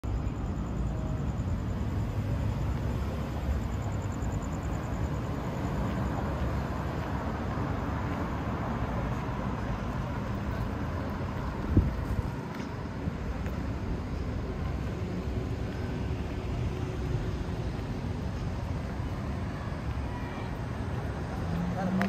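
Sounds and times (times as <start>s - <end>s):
passing cars rumbling: 0.7s - 22.0s.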